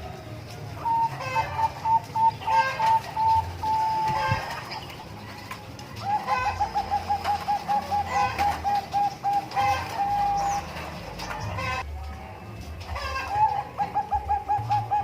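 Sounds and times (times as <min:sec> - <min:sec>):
dove cooing: 0:00.0 - 0:11.8, 0:12.8 - 0:15.0
chickens clucking: 0:00.0 - 0:15.0.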